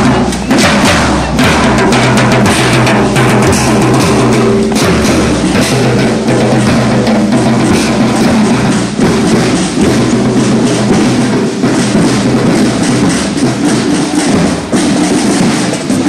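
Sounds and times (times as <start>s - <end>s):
marching drums: 0.0s - 16.0s.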